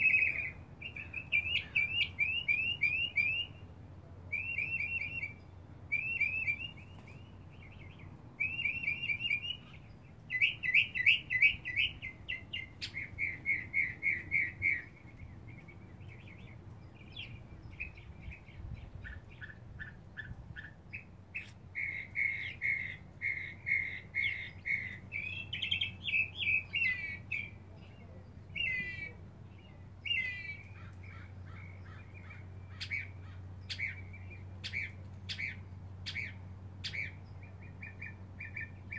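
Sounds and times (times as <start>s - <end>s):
mockingbird singing: 0.0s - 38.9s.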